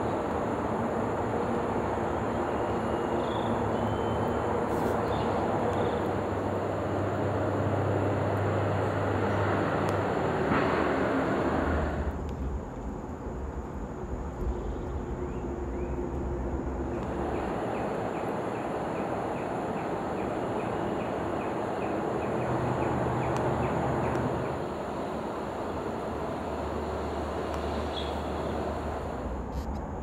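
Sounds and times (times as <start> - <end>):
distant traffic noise: 0.0 - 30.0.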